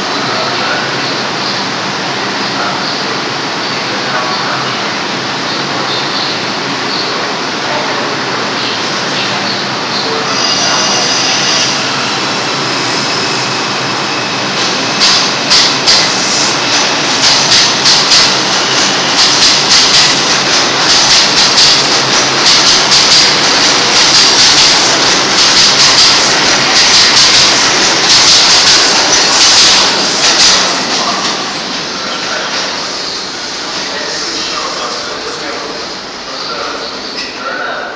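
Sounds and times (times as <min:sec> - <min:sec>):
subway train rumble: 0:00.0 - 0:37.9.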